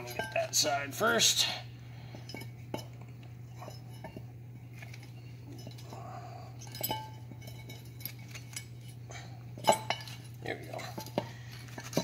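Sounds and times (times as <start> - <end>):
metal clinks and taps: 0.0 - 0.8, 2.0 - 12.0
metal clanks: 0.0 - 1.0, 2.0 - 12.0
low hum: 0.0 - 12.0.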